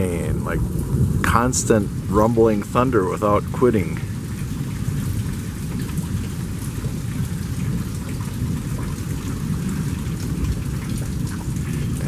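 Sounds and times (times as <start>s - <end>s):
constant low rumble: 0.0s - 12.0s
rain falling: 0.0s - 12.0s.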